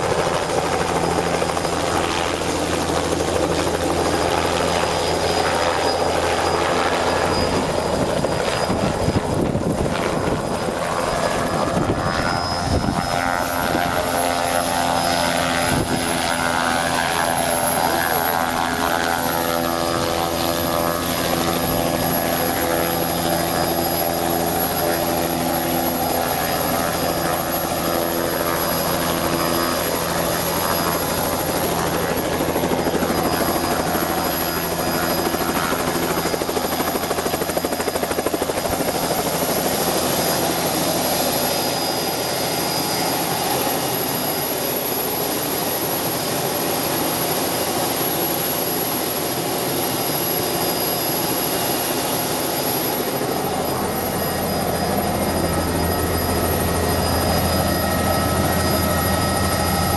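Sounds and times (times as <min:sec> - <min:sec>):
helicopter idling with whine: 0:00.0 - 0:59.9.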